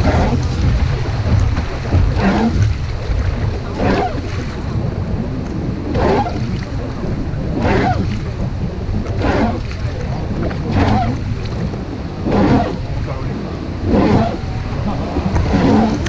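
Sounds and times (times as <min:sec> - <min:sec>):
river water rushing: 0:00.0 - 0:16.0
wind buffeting microphone: 0:00.0 - 0:16.0.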